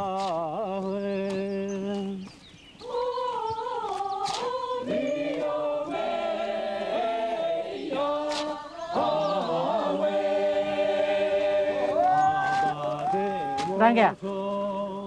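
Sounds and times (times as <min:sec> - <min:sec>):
choir singing long notes: 0:02.8 - 0:15.0.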